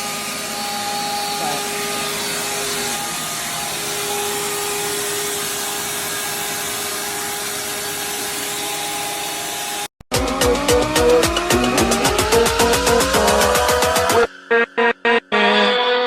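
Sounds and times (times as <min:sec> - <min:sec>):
shop vac motor whining: 0:00.0 - 0:14.3.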